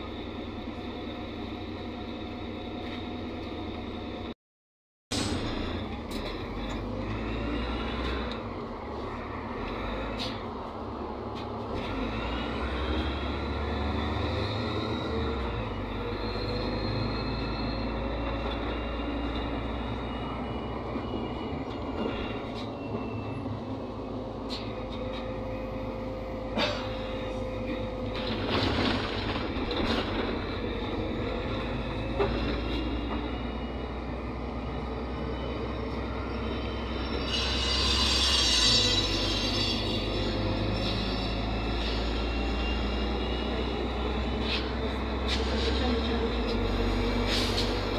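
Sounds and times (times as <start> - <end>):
bus diesel engine drone: 0.0 - 4.4, 5.1 - 47.9.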